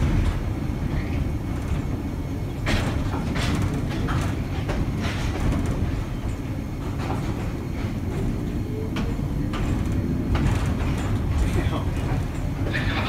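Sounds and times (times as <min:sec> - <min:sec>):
sharp clicks and knocks: 0:00.0 - 0:12.8
streetcar rumbling on track: 0:00.0 - 0:13.0.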